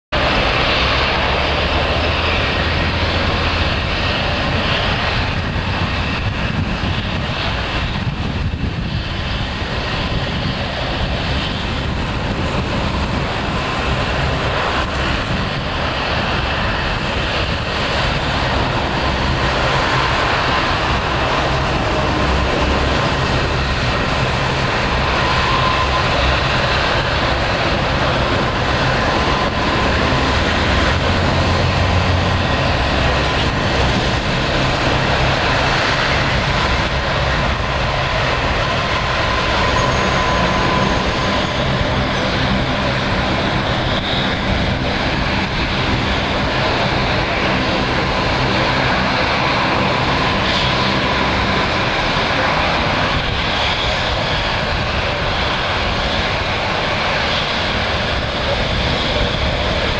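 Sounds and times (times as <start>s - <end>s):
turbine whine: 0.1s - 59.9s
turboprop engines droning: 0.1s - 59.9s.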